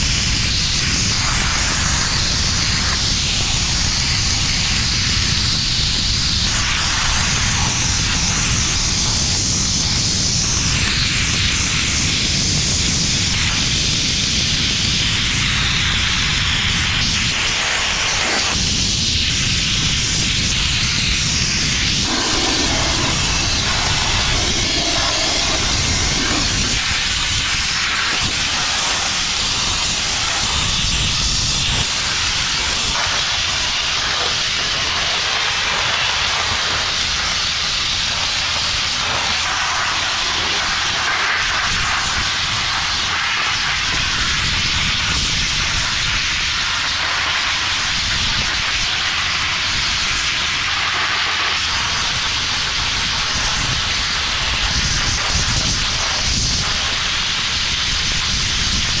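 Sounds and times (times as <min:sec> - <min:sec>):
abrasive blasting hiss: 0:00.0 - 0:59.0.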